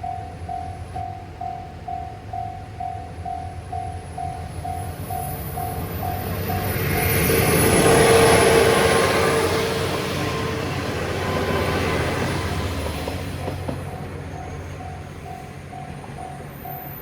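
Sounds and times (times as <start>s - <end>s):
crossing warning bell ringing: 0.0s - 17.0s
diesel railcar passing: 0.0s - 17.0s.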